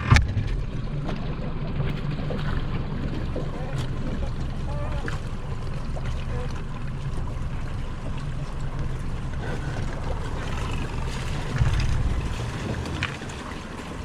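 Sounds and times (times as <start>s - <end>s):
outboard motor running: 0.0s - 14.0s
water noise: 0.0s - 14.0s
wind: 0.0s - 14.0s.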